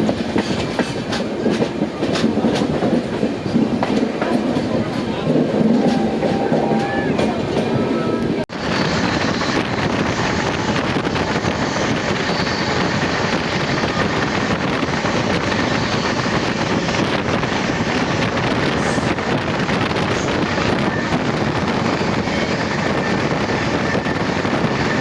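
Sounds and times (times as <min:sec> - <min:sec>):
train rumble: 0:00.0 - 0:25.0
wind on microphone: 0:00.0 - 0:25.0.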